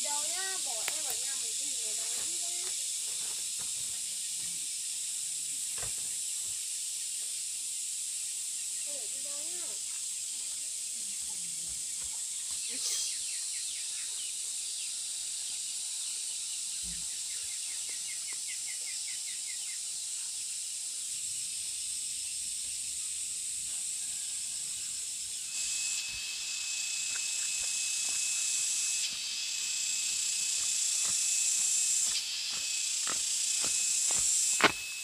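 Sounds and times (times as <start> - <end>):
insects buzzing drone: 0.0 - 35.0
steady high whine: 0.0 - 35.0.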